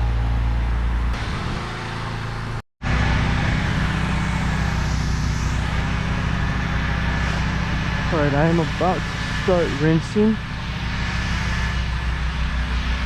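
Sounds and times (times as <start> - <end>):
pressure washer engine running: 1.2 - 13.0.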